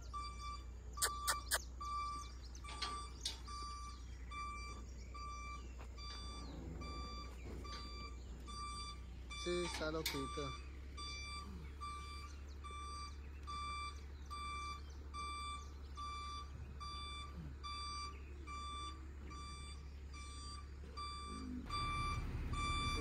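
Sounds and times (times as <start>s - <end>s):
engine humming: 0.0s - 23.0s
reversing alarm beeping: 0.0s - 23.0s.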